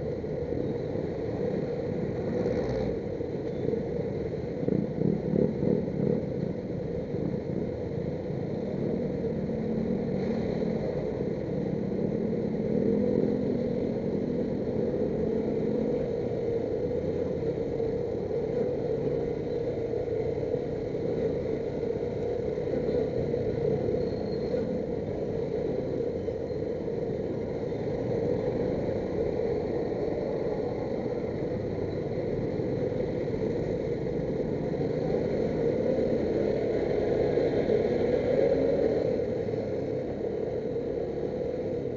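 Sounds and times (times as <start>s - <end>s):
heavy traffic noise: 0.0s - 41.9s.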